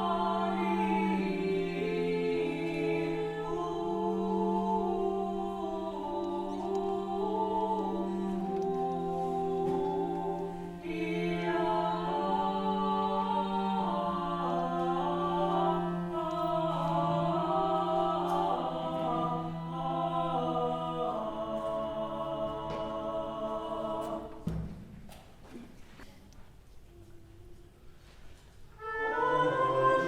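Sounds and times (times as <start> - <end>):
vocal ensemble chanting: 0.0 - 24.6, 28.8 - 30.0.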